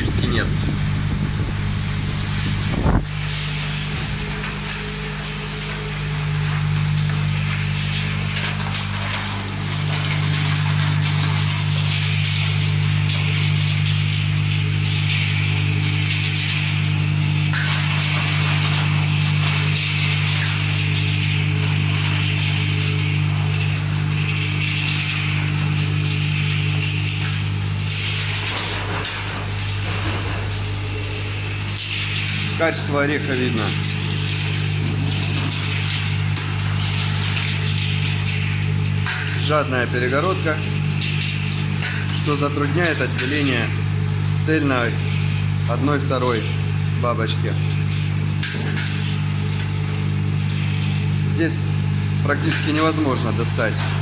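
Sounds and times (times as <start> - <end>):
electric motor hum: 0.0 - 54.0.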